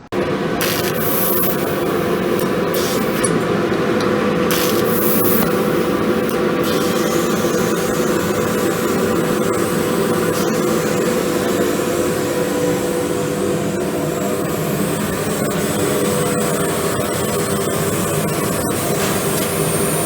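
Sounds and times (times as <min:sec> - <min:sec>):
laser cutting machine running: 0:00.0 - 0:20.0.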